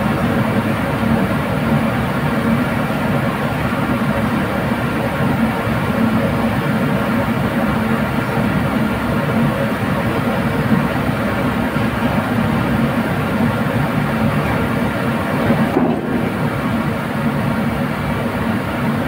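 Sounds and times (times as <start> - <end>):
drilling rig machinery running: 0.0 - 19.0.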